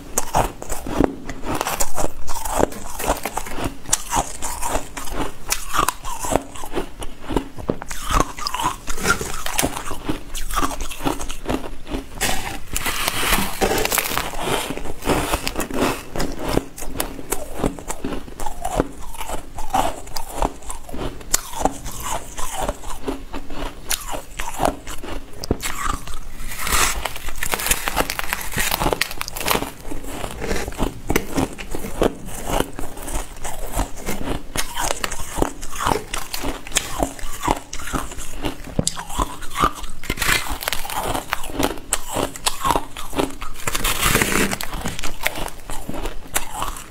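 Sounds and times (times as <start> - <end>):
ice crunching being chewed: 0.0 - 46.9.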